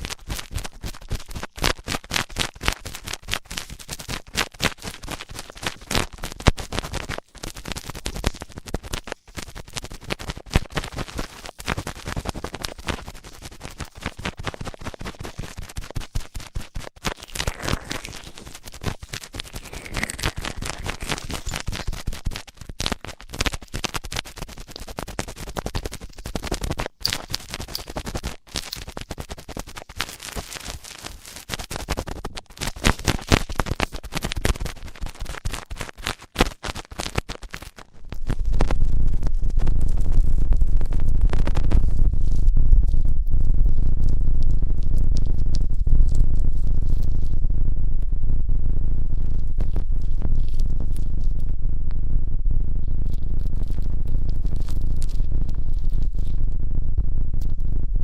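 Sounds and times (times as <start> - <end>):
scratching against microphone: 0.0 - 57.8.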